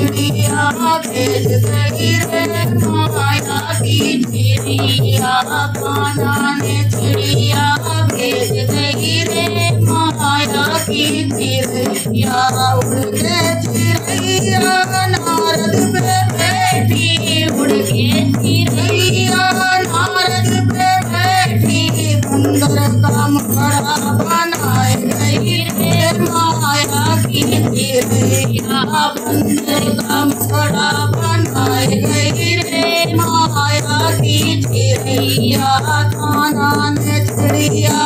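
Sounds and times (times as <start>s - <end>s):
hand drum beat: 0.0s - 38.0s
woman singing: 0.0s - 38.0s.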